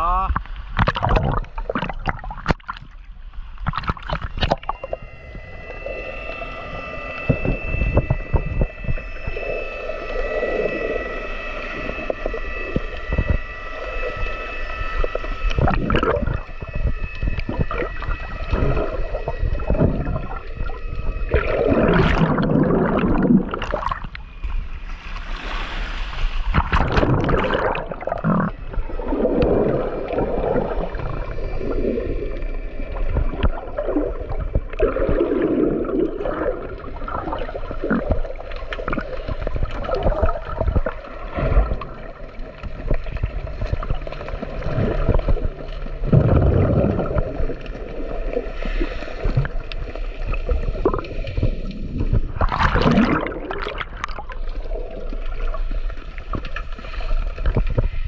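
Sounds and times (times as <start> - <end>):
muffled water sloshing and gurgling: 0.0 - 58.0
water splashing: 0.3 - 58.0.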